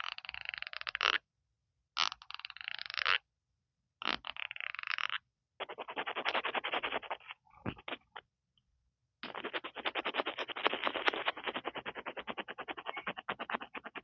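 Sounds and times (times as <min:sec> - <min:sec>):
tapping and scratching on microphone: 0:00.0 - 0:01.2, 0:02.0 - 0:03.2, 0:04.0 - 0:08.3, 0:09.2 - 0:14.0.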